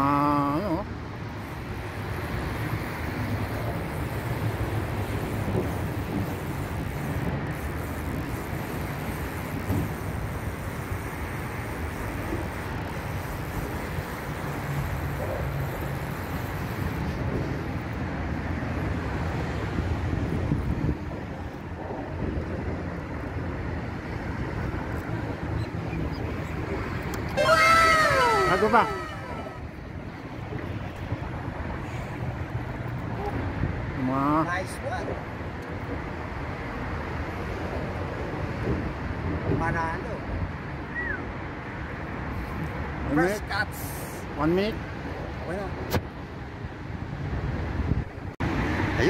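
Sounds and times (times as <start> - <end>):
highway traffic noise: 0.0 - 49.0.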